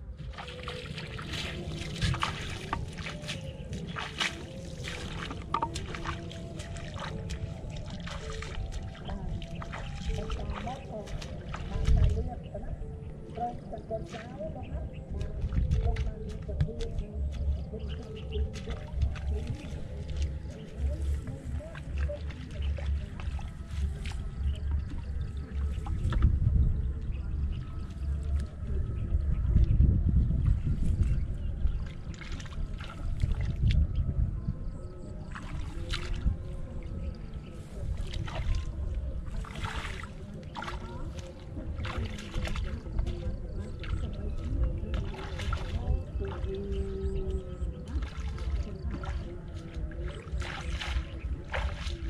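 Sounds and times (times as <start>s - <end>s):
footsteps splashing through water: 0.0s - 52.0s
wind rumble on microphone: 0.0s - 52.0s.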